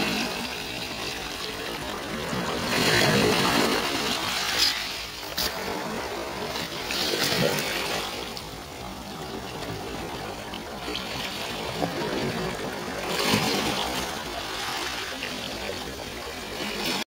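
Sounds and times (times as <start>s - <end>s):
waves washing over pebbles: 0.0s - 17.0s.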